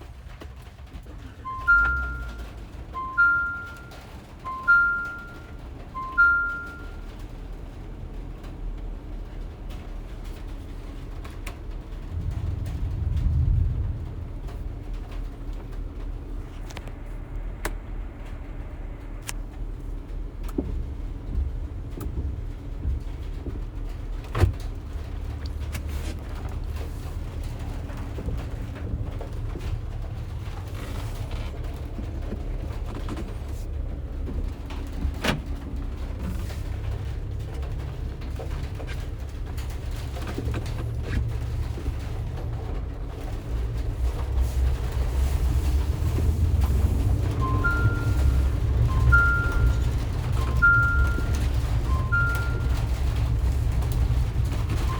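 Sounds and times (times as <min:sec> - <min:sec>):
van body creaks and rattles: 0:00.0 - 0:54.9
van engine and road rumble: 0:00.0 - 0:54.9.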